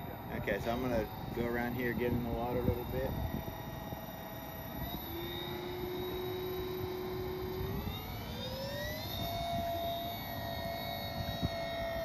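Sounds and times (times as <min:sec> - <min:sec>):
electric motors and propellers whining: 0:00.0 - 0:12.0.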